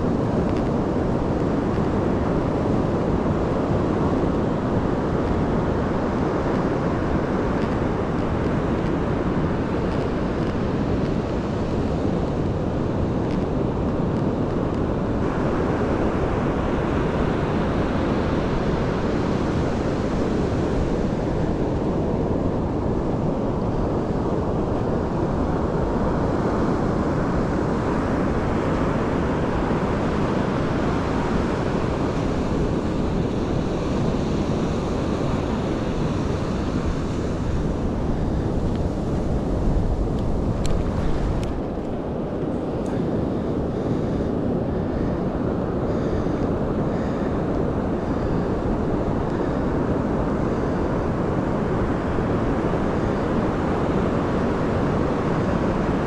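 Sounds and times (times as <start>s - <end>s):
ocean surf rushing: 0.0s - 56.0s
wind buffeting microphone: 0.0s - 56.0s.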